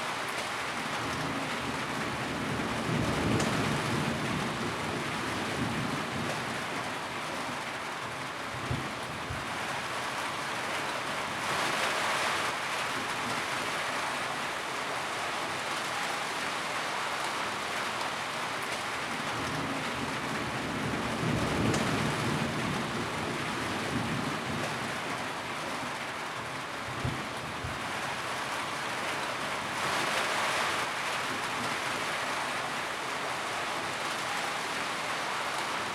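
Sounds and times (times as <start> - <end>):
rain on a tin roof: 0.0 - 35.9.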